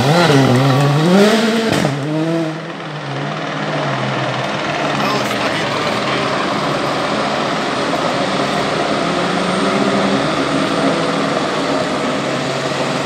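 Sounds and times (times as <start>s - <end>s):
loud engine drone: 0.0s - 13.0s.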